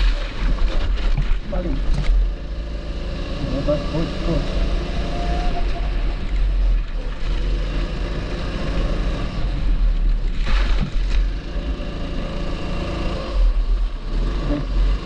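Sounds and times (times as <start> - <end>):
kart engine running: 0.0 - 15.0.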